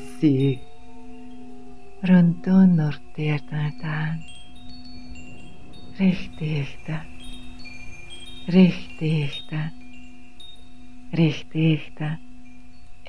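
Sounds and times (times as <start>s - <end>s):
steady low drone: 0.0s - 12.6s
chimes ringing high notes: 0.0s - 13.0s.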